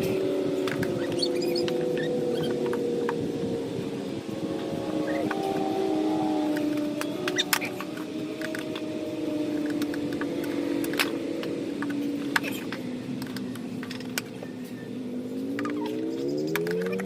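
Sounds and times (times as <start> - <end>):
steady hum: 0.0 - 16.4.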